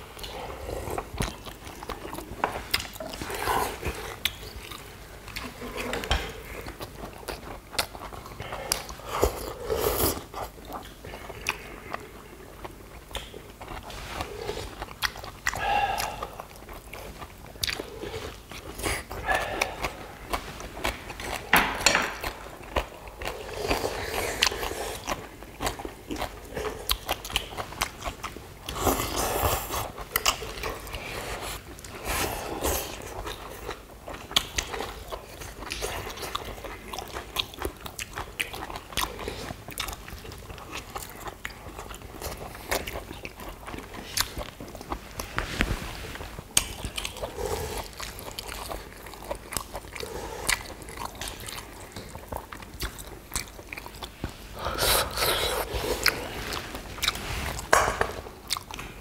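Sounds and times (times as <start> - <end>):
chewing: 0.1 - 59.0.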